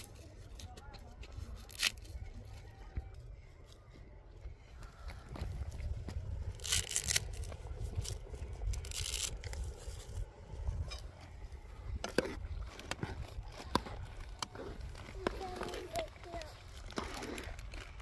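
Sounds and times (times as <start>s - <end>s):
low rumble: 3.0s - 18.0s.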